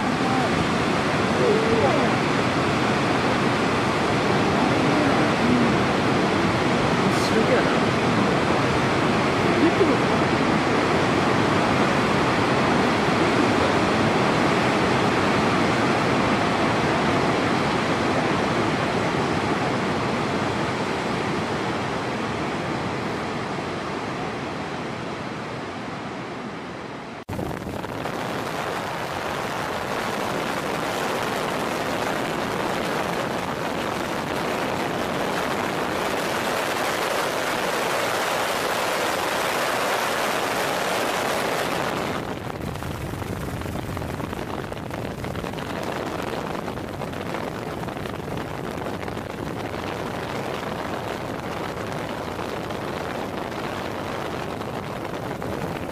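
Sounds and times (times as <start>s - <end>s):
steady rushing noise: 0.0s - 55.9s.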